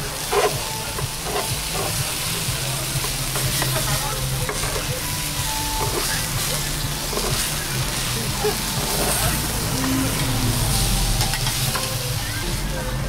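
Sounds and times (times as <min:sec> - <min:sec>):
metal scrapers scraping griddle: 0:00.0 - 0:12.6
food sizzling on griddle: 0:00.0 - 0:13.0.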